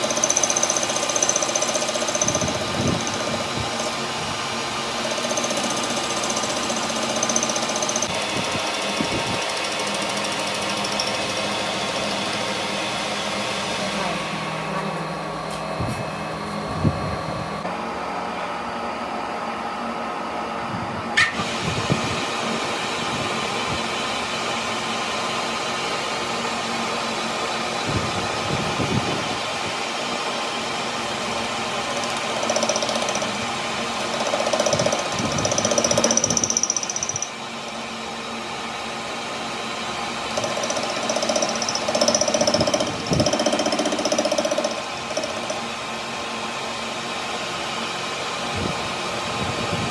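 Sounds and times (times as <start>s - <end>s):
metalworking machine running: 0.0s - 20.4s, 21.2s - 49.9s
machining noise with steady tone: 0.0s - 49.9s.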